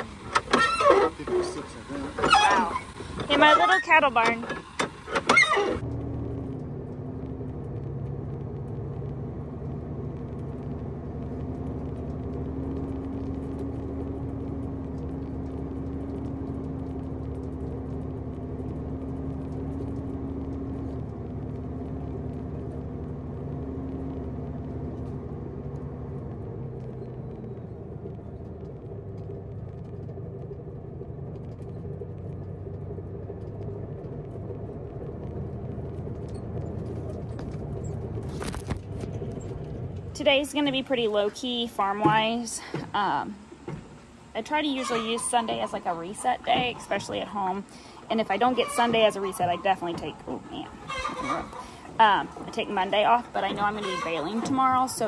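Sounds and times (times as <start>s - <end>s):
road noise: 0.0s - 55.0s
truck engine humming: 0.0s - 55.0s.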